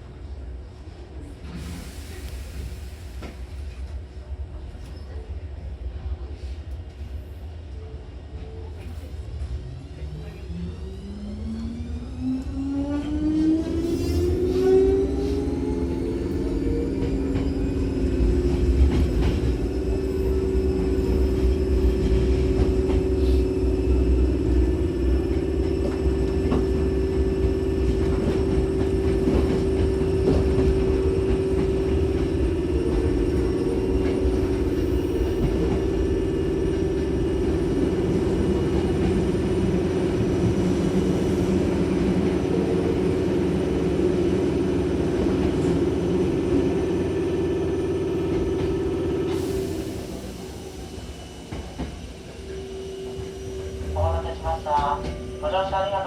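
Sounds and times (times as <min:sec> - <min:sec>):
electric train low hum: 0:00.0 - 0:56.0
wheels rumbling on rails: 0:08.3 - 0:56.0.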